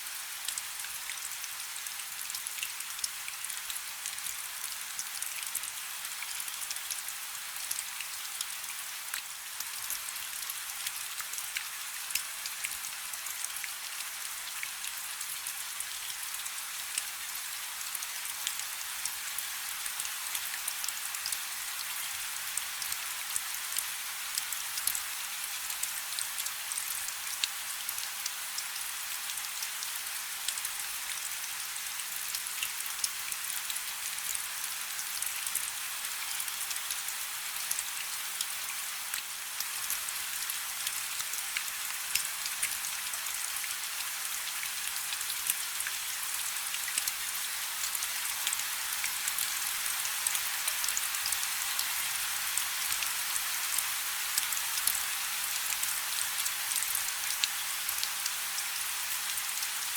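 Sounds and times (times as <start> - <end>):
rain falling on water: 0.0 - 59.9.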